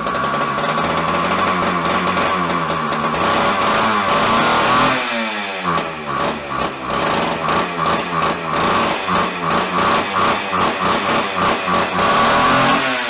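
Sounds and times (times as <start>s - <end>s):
chainsaw engine running unevenly: 0.0s - 13.0s.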